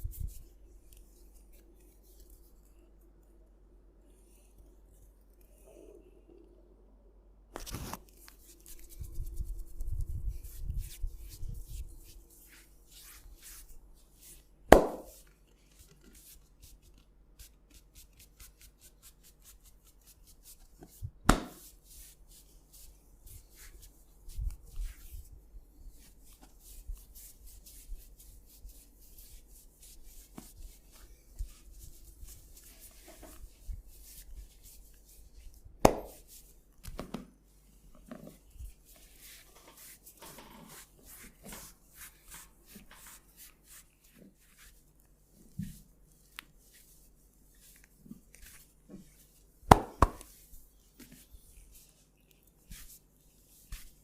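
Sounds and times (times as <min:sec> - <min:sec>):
rubbing on skin and hair: 0:00.0 - 0:02.7, 0:07.7 - 0:54.0.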